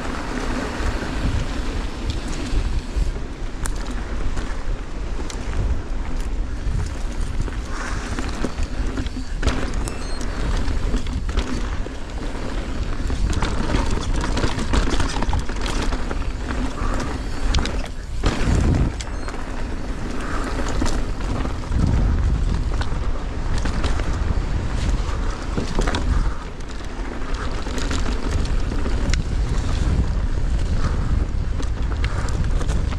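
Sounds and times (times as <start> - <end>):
bike rattling and knocking: 0.0 - 32.9
tyres on gravel trail: 0.0 - 32.9
wind buffeting microphone: 0.0 - 32.9.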